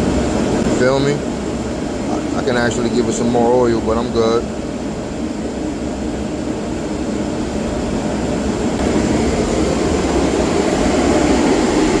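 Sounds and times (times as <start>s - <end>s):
oil burner roaring: 0.0s - 12.0s.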